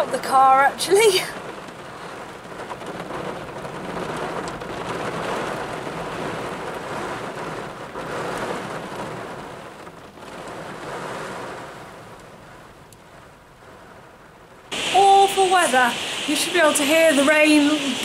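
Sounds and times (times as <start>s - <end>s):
heavy rain on a car: 0.0s - 18.0s.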